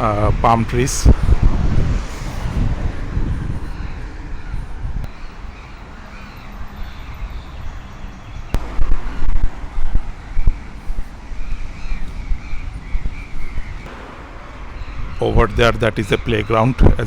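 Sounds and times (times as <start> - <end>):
traffic noise: 0.0 - 17.0
wind gusting on microphone: 0.0 - 17.0.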